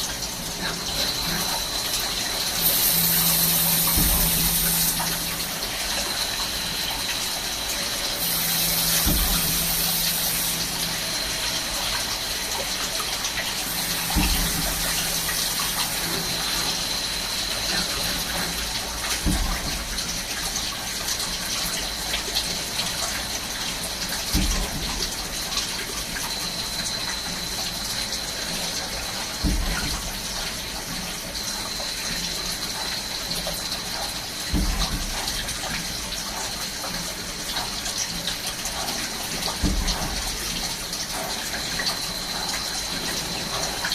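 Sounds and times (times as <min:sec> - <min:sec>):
coolant spraying: 0:00.0 - 0:43.9.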